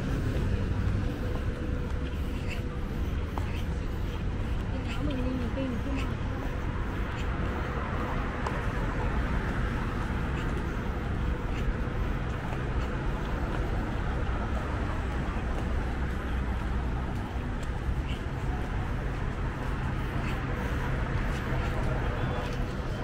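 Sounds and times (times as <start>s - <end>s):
faint voices: 0.0s - 23.0s
road traffic rumble: 0.0s - 23.0s.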